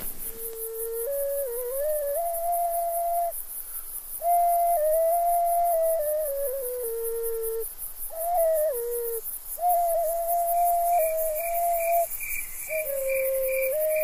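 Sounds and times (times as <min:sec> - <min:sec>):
slow flute melody: 0:00.0 - 0:03.4, 0:04.2 - 0:12.1, 0:12.7 - 0:14.0.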